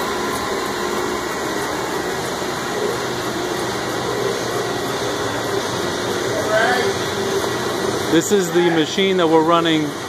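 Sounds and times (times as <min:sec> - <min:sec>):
metal lathe humming: 0:00.0 - 0:10.0.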